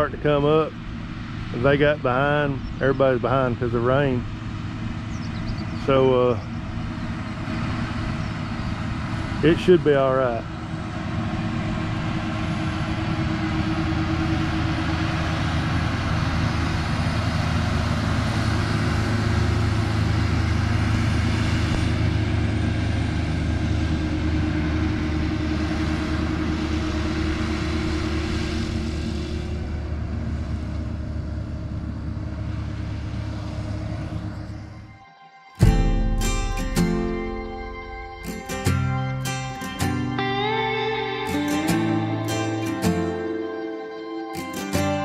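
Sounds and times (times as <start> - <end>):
vehicle engine droning: 0.0 - 45.0.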